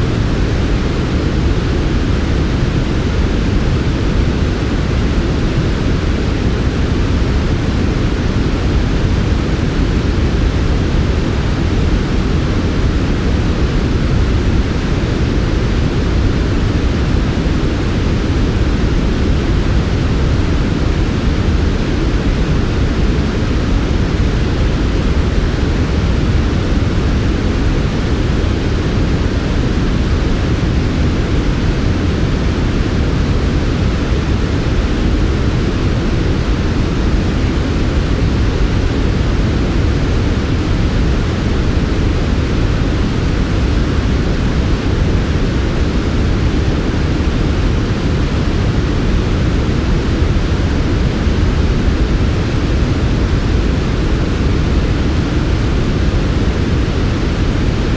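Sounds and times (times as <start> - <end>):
white noise hiss: 0.0 - 57.9.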